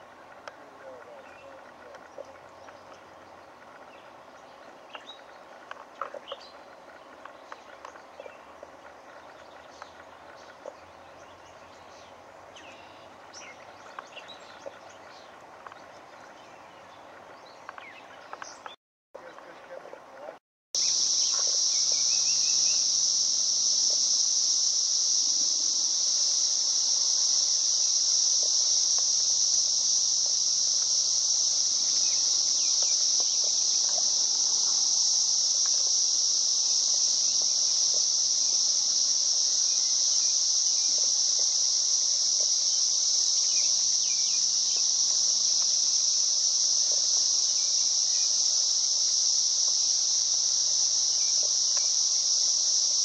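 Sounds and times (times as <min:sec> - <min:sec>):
insect chorus: 0:00.0 - 0:53.0.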